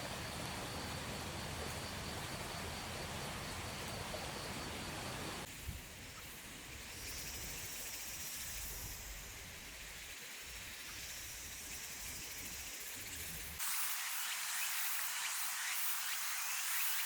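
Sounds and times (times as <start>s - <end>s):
steady high hiss: 3.0s - 17.0s.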